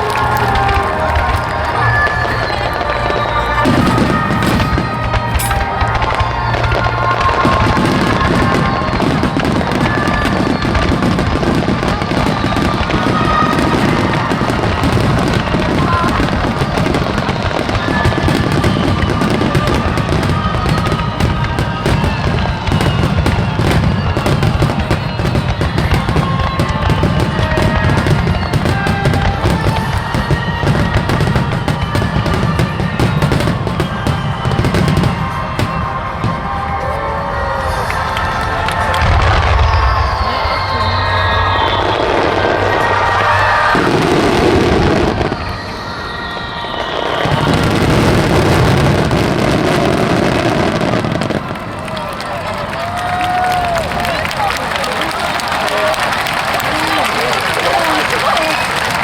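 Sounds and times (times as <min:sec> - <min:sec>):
fireworks bursting: 0:00.0 - 0:59.0
fireworks crackle: 0:00.0 - 0:59.0.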